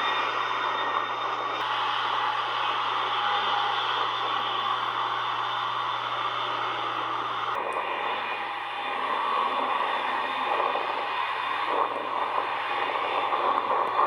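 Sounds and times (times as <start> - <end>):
jet engine rushing: 0.0 - 14.0
low hum: 0.0 - 14.0.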